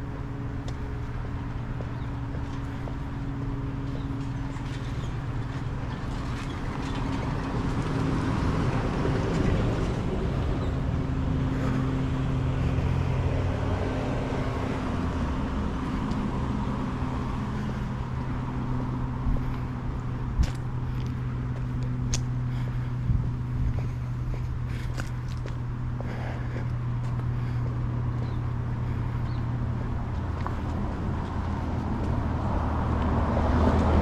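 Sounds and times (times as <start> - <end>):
vehicle driving past: 0.0 - 34.0.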